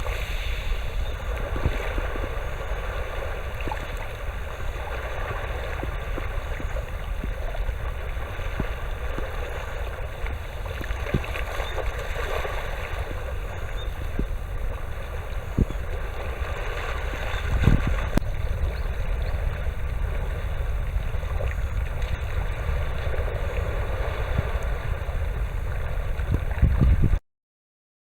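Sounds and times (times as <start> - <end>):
sea rushing: 0.0 - 27.2
wind buffeting the microphone: 0.0 - 27.2.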